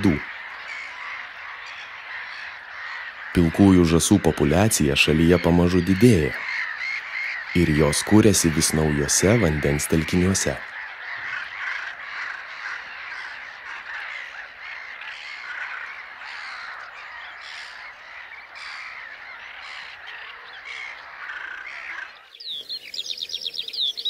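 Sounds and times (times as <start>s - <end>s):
geese calling: 0.0s - 24.0s
small bird chirping song: 0.0s - 24.0s.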